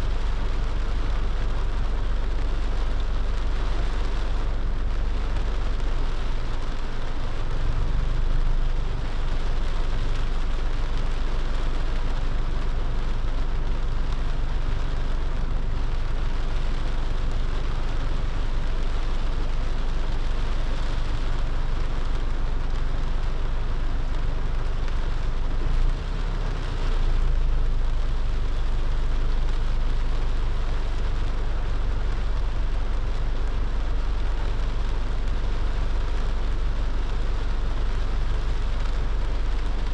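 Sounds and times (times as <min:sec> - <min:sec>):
low rumble: 0:00.0 - 0:39.9
rain and tyres on wet road: 0:00.0 - 0:39.9.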